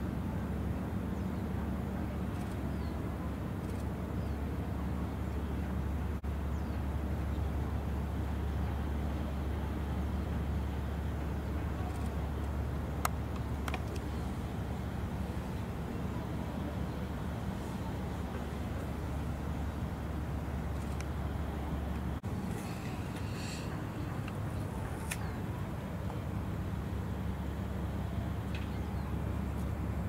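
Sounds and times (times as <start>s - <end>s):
low ship engine drone: 0.0s - 30.0s.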